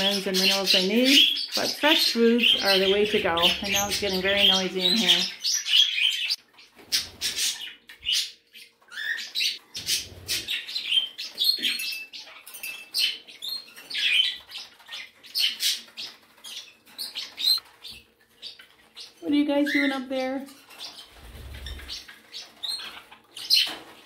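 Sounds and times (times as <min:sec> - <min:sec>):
parrots chirping and squawking: 0:00.0 - 0:24.0.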